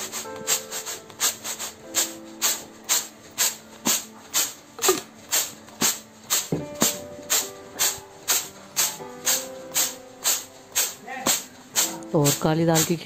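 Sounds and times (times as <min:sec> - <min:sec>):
grain rattling in winnowing basket: 0:00.0 - 0:13.0.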